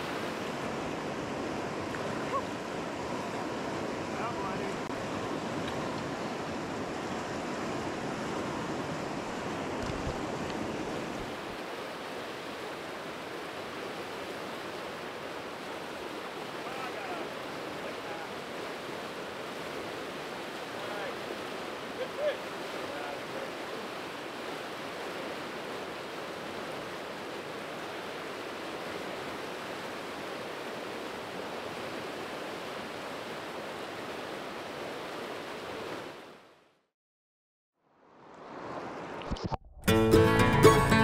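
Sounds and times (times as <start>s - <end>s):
river water rushing: 0.0s - 36.7s, 38.1s - 39.3s.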